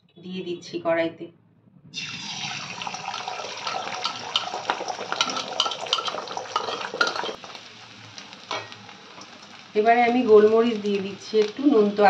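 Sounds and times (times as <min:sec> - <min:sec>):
eggs sizzling in hot oil: 0:02.0 - 0:12.0.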